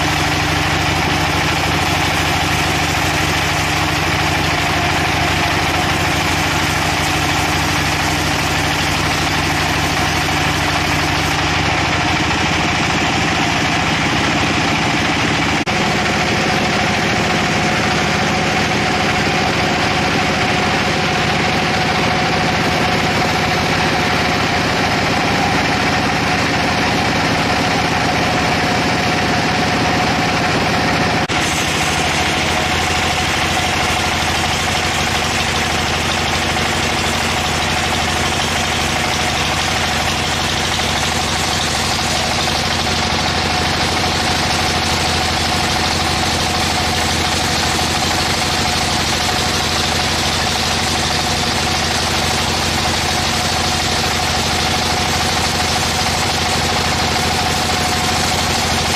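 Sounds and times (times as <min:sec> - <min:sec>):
sawmill machinery droning: 0:00.0 - 0:58.9.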